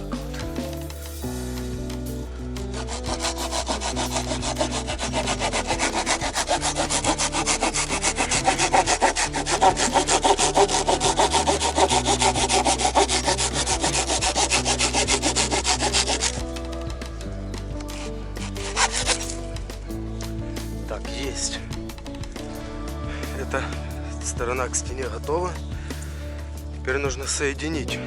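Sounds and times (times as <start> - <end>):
hand saw cutting wood: 0.0 - 22.6.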